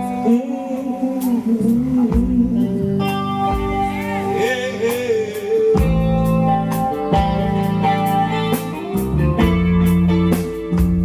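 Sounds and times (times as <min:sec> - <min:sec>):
guitar: 0:00.0 - 0:11.0
live band music: 0:00.0 - 0:11.0.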